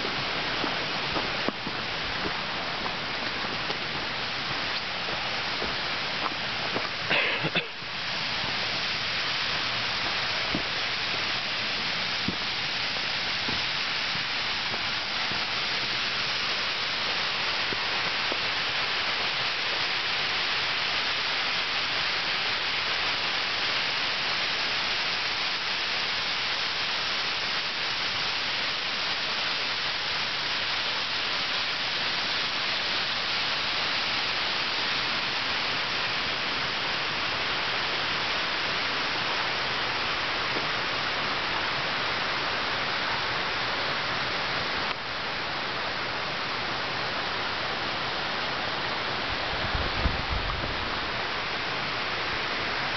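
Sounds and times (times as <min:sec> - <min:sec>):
river rushing: 0:00.0 - 0:52.9.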